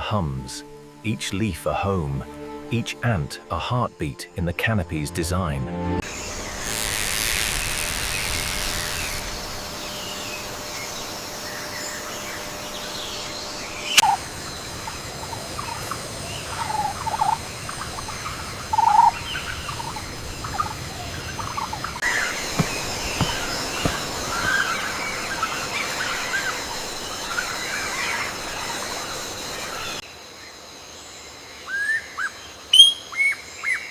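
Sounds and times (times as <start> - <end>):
rainforest background hiss: 0.0 - 33.9.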